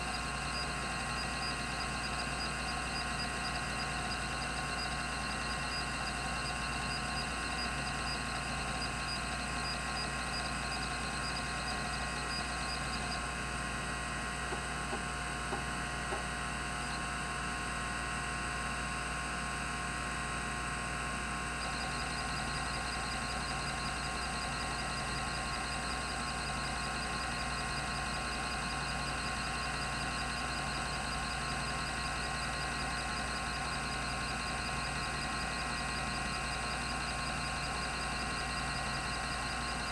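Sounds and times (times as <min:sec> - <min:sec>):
hard drive whine: 0:00.0 - 0:39.9.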